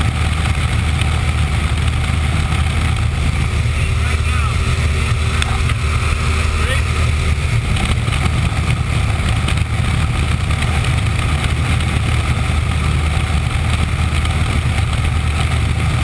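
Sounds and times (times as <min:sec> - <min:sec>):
engine humming: 0:00.0 - 0:16.0
rushing wind or water: 0:00.0 - 0:16.0.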